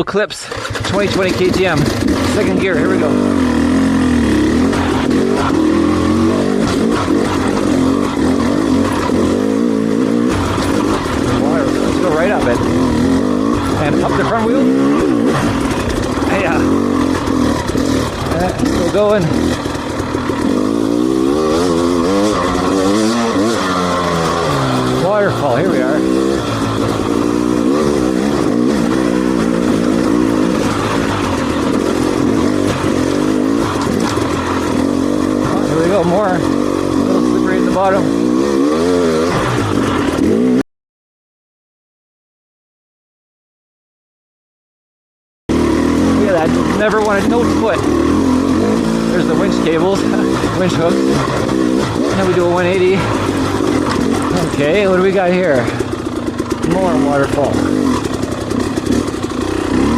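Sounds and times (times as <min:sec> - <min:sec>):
dirt bike engine revving: 0:00.4 - 0:40.6, 0:45.5 - 0:59.9.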